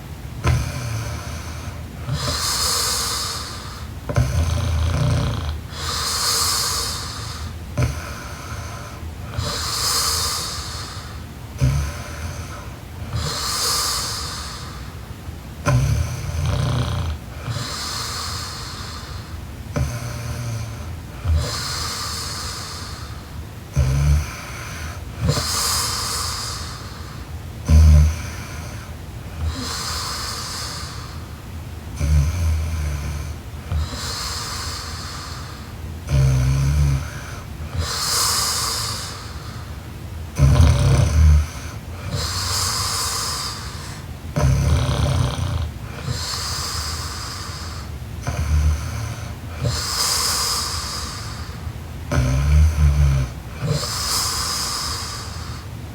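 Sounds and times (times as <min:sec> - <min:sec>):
woman snoring: 0:00.4 - 0:15.0, 0:15.6 - 0:55.7.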